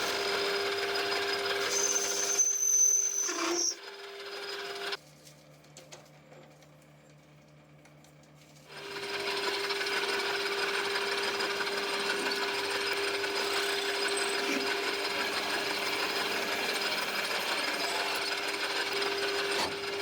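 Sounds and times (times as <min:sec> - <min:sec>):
power tool rasping and whining: 0:00.0 - 0:05.0, 0:08.7 - 0:20.0.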